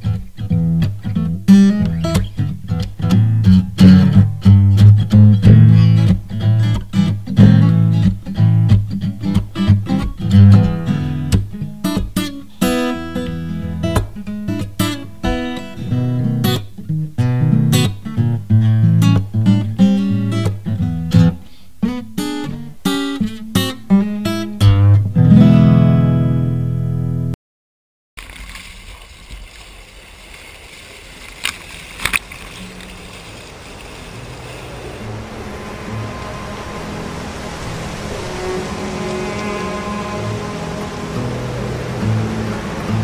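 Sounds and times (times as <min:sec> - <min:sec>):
acoustic guitar music: 0:00.0 - 0:27.4, 0:32.6 - 0:43.0.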